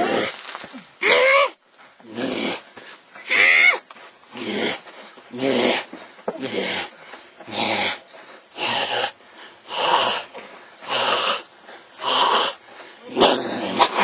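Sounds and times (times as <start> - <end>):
person breathing heavily and raspily: 1.6 - 14.0.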